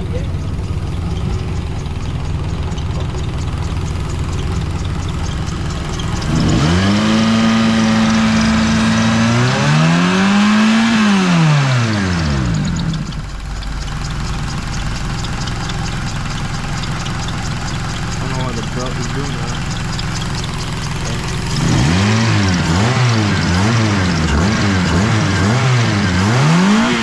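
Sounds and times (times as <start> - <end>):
car engine idling and revving: 0.0 - 27.0
fast high-pitched ticking: 0.0 - 27.0.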